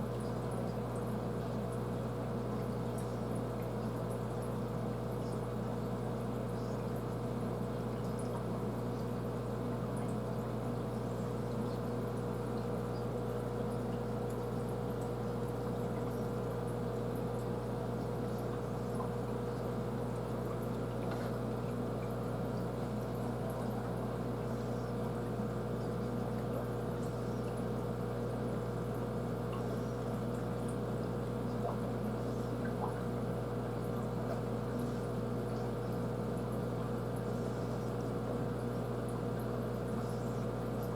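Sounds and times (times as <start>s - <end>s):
aquarium filter pump humming: 0.0s - 40.9s.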